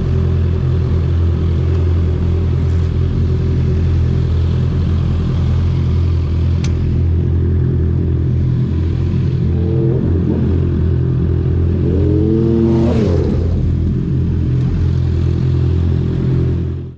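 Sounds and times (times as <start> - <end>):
higher engine note: 0.0 - 16.9
motorcycle engine running: 0.0 - 16.9.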